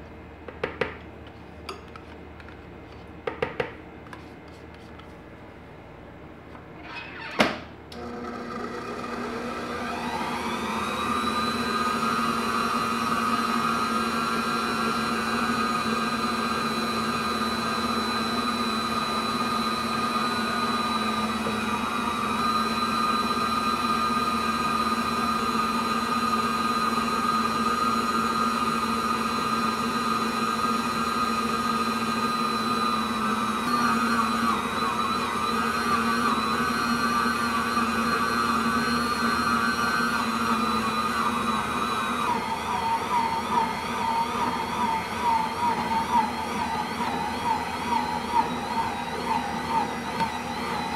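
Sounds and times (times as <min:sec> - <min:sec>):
stand mixer motor whining: 0:06.9 - 0:50.9.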